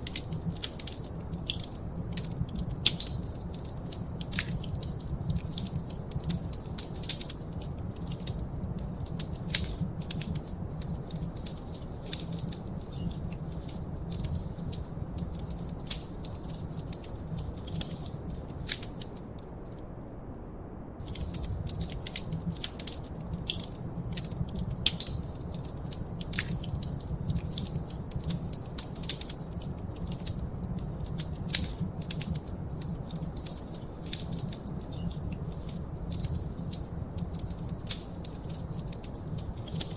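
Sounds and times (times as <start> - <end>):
wood fire crackling: 0.0 - 20.2, 21.0 - 39.9
low rumble of flame: 0.0 - 39.9.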